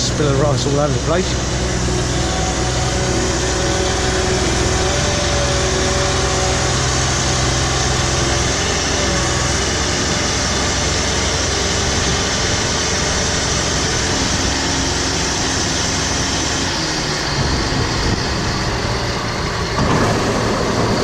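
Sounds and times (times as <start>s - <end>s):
combine harvester engine running: 0.0s - 21.0s.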